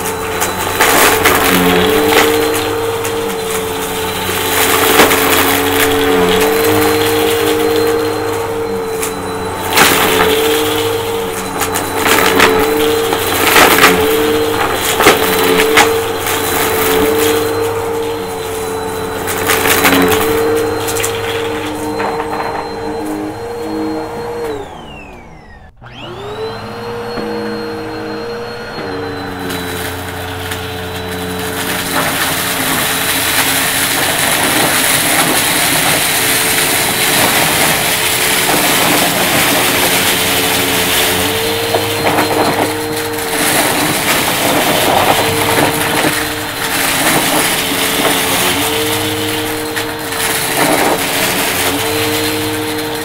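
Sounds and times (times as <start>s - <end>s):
debris rattling through vacuum: 0.0s - 53.0s
vacuum cleaner motor whine: 0.0s - 53.0s.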